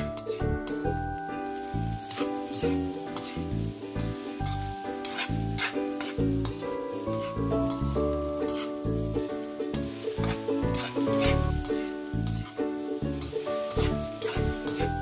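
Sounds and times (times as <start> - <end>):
background music: 0.0 - 15.0
sizzling hiss: 0.0 - 15.0
spatula scraping a wok: 1.6 - 15.0.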